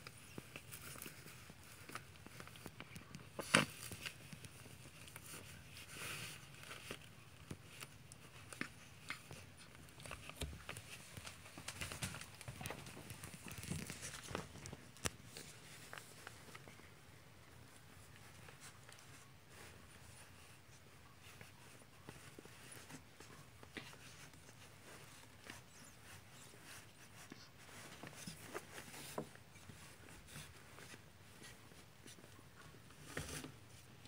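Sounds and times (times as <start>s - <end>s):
rustling and crinkling: 0.0s - 34.0s.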